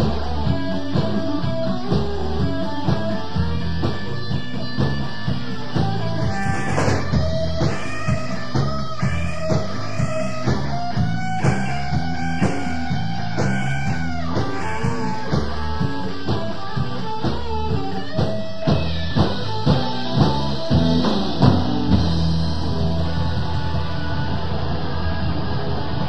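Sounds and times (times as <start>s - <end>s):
bass line: 0.0s - 26.0s
drum kit: 0.0s - 26.0s
electric guitar: 0.0s - 26.0s.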